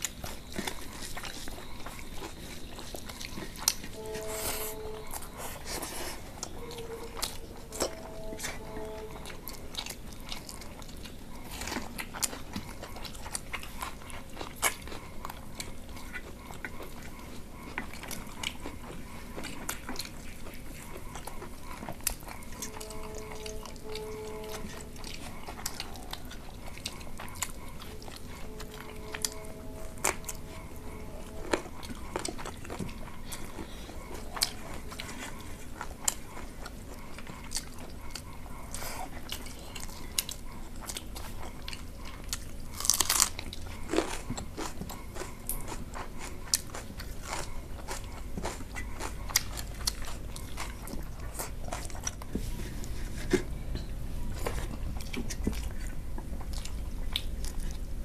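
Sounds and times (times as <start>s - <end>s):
chewing and mouth smacking: 0.0s - 58.0s.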